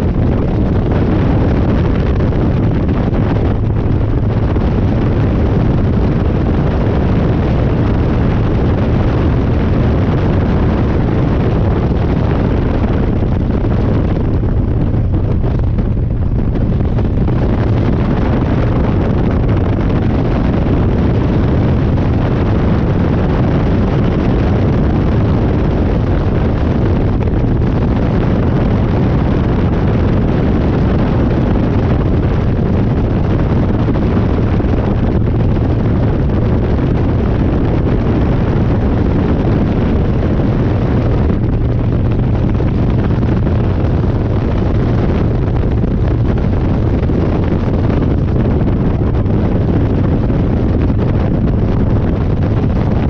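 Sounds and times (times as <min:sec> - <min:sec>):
motorcycle engine riding: 0:00.0 - 0:53.0
wind rushing over microphone: 0:00.0 - 0:53.0.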